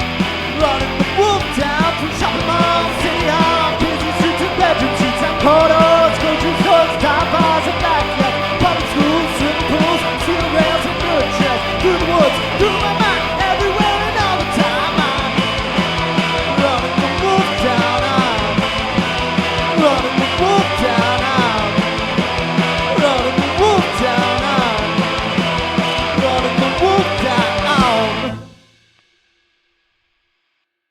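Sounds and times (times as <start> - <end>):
rock band playing: 0.0 - 28.6.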